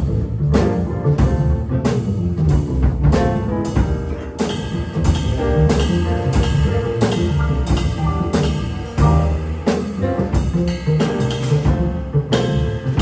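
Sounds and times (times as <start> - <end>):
drum hits: 0.0 - 13.0
jazz combo playing: 0.0 - 13.0.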